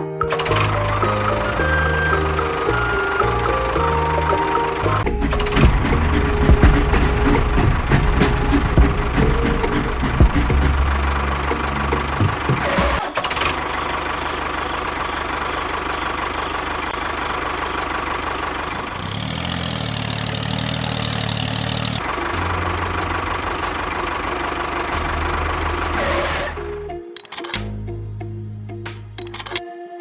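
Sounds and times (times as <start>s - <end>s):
engine running: 0.2s - 29.6s.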